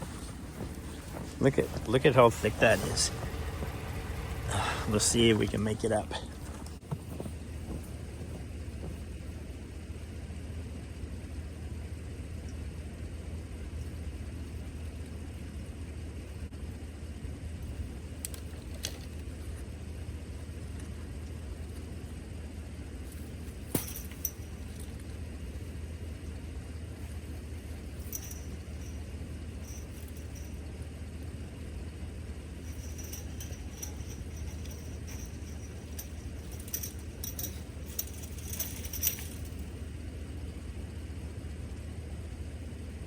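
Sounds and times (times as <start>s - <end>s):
vehicle engine rumble: 0.0s - 43.0s.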